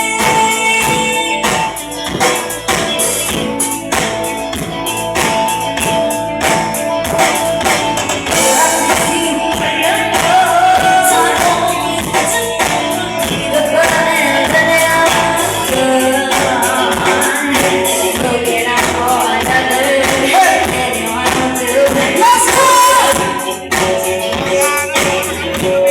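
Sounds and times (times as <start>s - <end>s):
person singing: 0.0s - 3.5s, 8.2s - 25.9s
guitar: 0.0s - 25.9s
steady drum beat: 0.0s - 25.9s.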